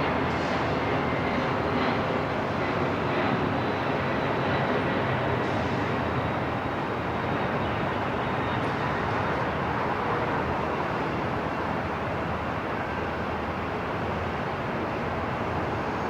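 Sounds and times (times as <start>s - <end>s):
airport rumble and hiss: 0.0s - 16.0s.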